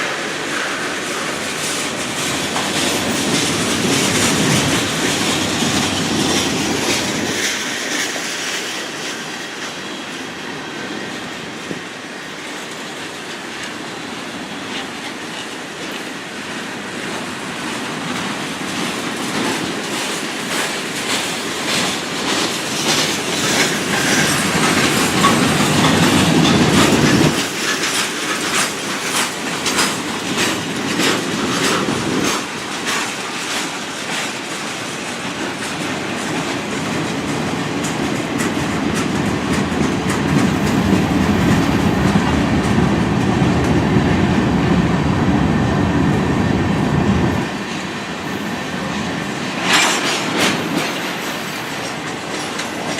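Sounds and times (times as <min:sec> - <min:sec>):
train wheels clicking on rails: 0:00.0 - 0:52.9.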